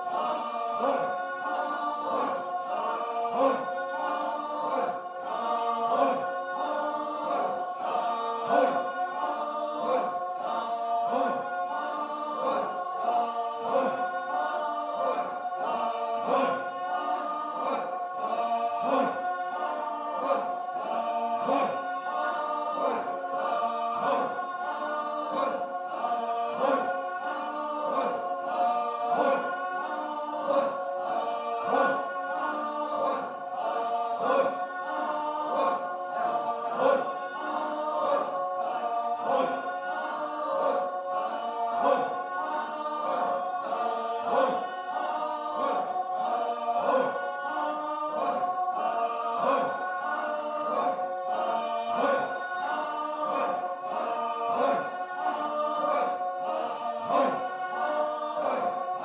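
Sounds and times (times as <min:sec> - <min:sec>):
choir singing over a beat: 0:00.0 - 0:59.0.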